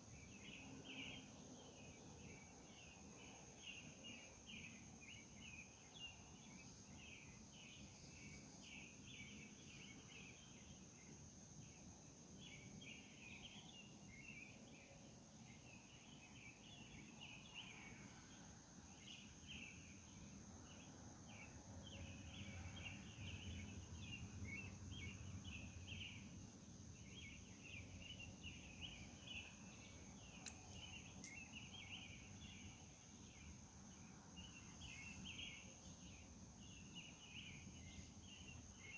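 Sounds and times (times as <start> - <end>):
night insects chirping: 0.0 - 38.9.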